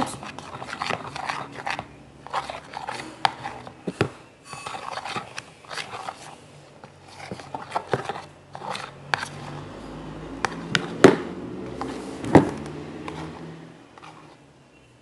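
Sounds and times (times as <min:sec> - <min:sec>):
teaspoon stirring sticky mix: 0:00.0 - 0:15.0.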